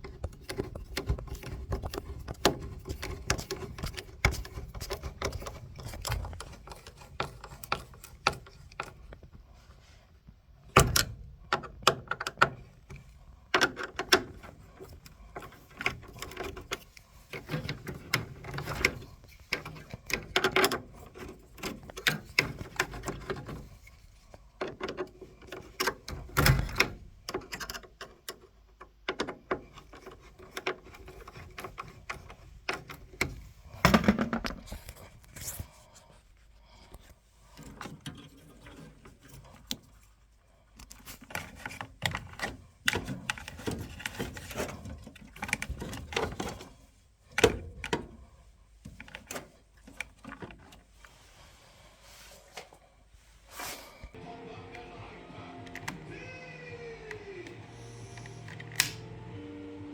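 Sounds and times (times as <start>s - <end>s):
clattering of objects handled: 0.0s - 54.2s.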